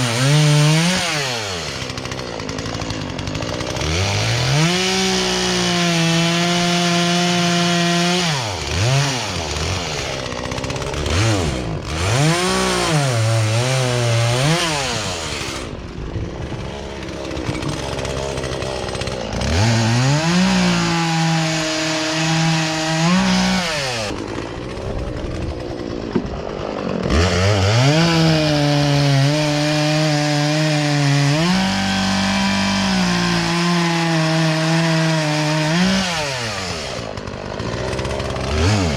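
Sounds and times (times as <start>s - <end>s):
chainsaw running at high revs: 0.0s - 38.9s.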